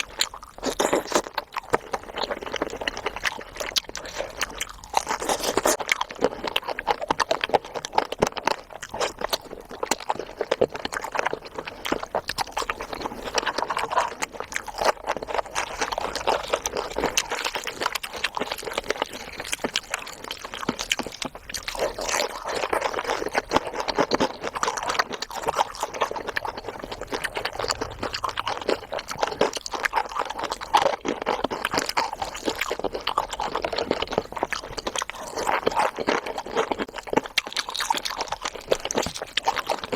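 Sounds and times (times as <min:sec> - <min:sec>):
close chewing with mouth clicks: 0:00.0 - 0:39.9.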